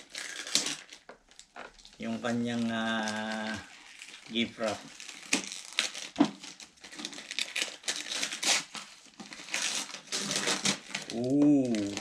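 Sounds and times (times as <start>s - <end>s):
wrapping paper tearing and crumpling: 0.0s - 12.0s.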